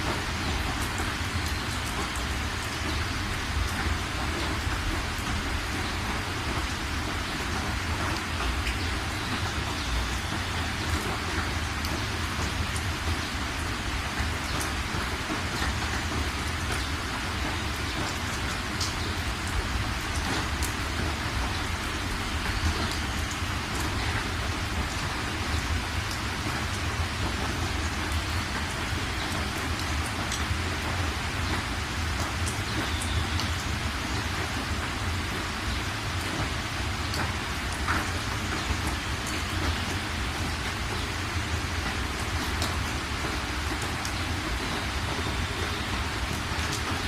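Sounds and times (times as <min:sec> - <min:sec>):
rain falling: 0:00.0 - 0:47.0
raindrops ticking: 0:00.0 - 0:47.0.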